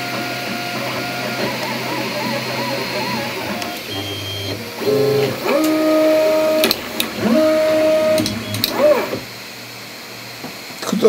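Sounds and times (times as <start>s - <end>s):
stepper motors whining: 0.0s - 9.5s.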